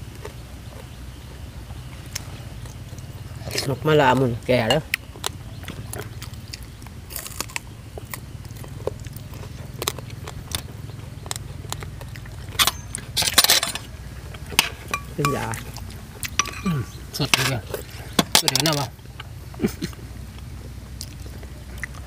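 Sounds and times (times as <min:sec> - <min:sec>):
chewing and crunching food: 0:00.0 - 0:22.0
steady low hum: 0:00.0 - 0:22.0.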